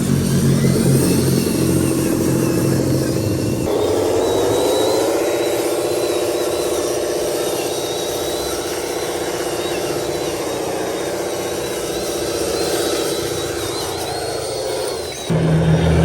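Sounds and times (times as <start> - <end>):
diesel truck engine under load: 0.0 - 16.0
thin high whine: 0.0 - 16.0.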